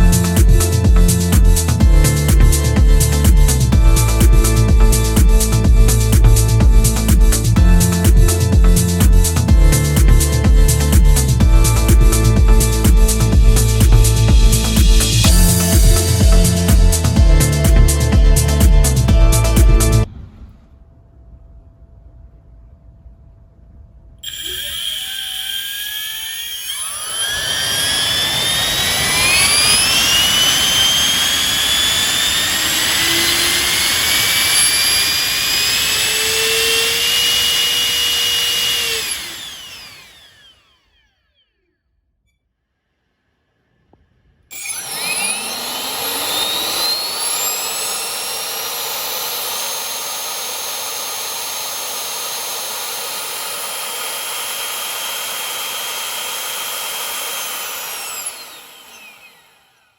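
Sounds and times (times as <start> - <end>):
electric turbo whine: 0.0 - 21.4, 24.2 - 41.3, 44.5 - 59.9.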